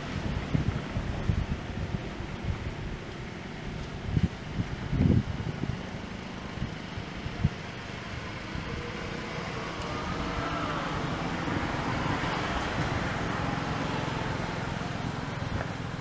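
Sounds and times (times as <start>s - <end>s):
motor vehicle running: 0.0s - 16.0s.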